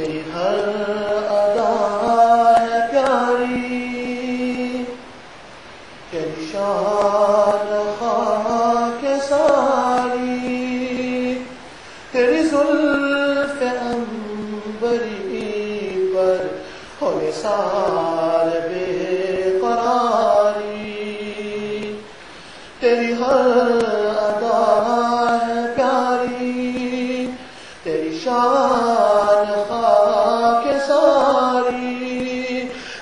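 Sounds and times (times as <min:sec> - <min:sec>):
man chanting unaccompanied: 0:00.0 - 0:05.2, 0:06.0 - 0:33.0.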